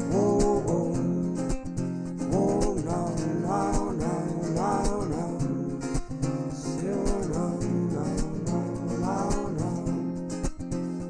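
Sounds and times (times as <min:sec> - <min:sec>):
man singing: 0:00.0 - 0:10.4
strummed acoustic guitar: 0:00.0 - 0:11.0.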